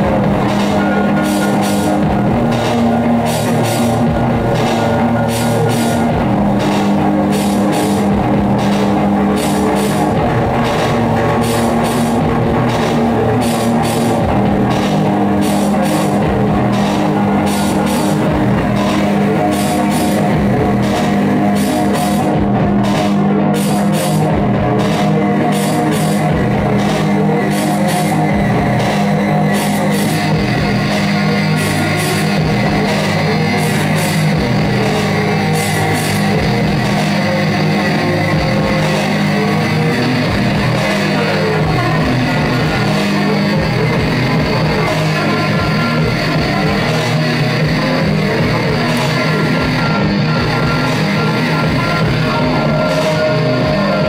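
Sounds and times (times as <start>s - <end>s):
low droning tones: 0.0s - 54.0s
pulsing noise wash: 0.0s - 54.0s.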